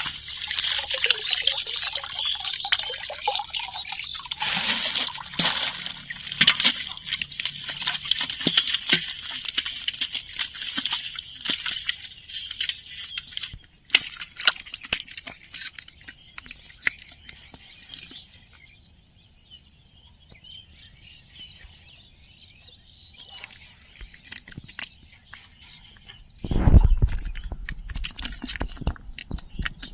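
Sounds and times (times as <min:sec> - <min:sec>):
water splashing and sloshing: 0:00.0 - 0:18.6, 0:23.2 - 0:29.9.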